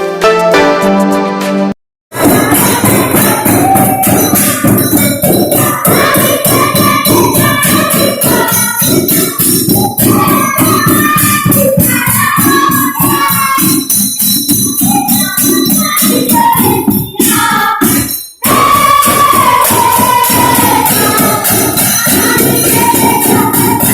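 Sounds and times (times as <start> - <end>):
percussion on household objects: 2.1 - 23.9.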